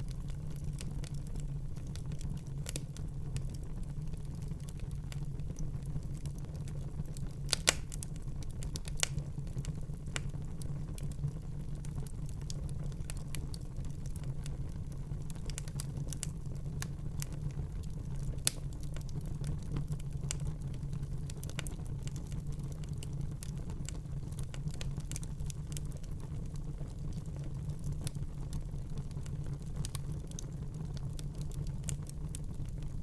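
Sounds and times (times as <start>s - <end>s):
fire crackles and pops: 0.0s - 33.0s
low rumble of flames: 0.0s - 33.0s.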